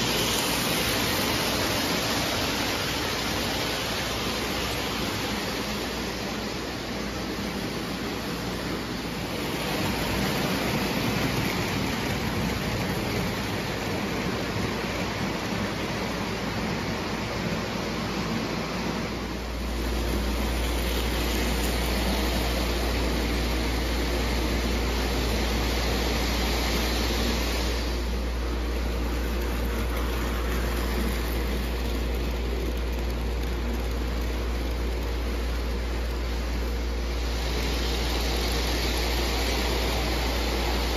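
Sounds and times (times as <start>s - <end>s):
model train wheels rumbling on rail: 0.0s - 40.9s.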